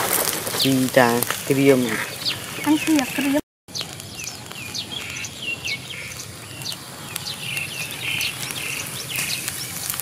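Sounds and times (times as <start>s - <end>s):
faint crackles: 0.0s - 10.0s
small birds chirping: 0.6s - 10.0s.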